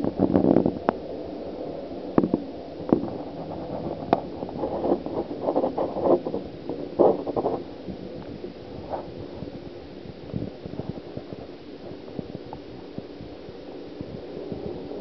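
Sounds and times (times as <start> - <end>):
muffled underwater water sloshing: 0.0 - 15.0.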